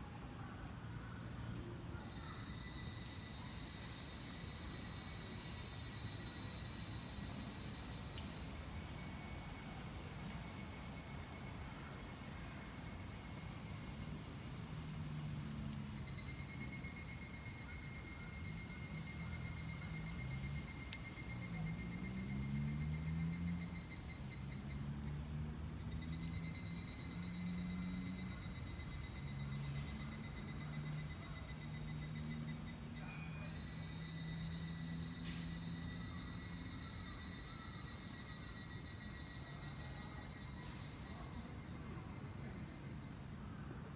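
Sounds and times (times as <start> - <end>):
high insect hiss: 0.0 - 43.9
cicadas calling: 0.2 - 43.9.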